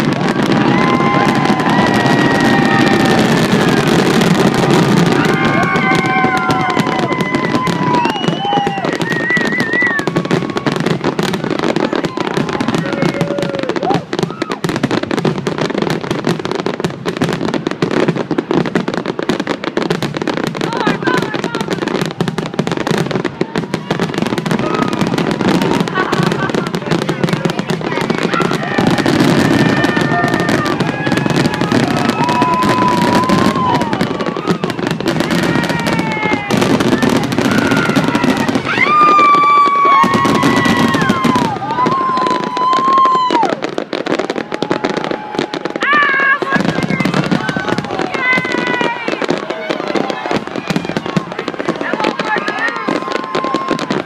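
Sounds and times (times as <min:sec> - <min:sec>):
fireworks crackling and popping: 0:00.0 - 0:54.0
fireworks whistling: 0:00.0 - 0:54.0.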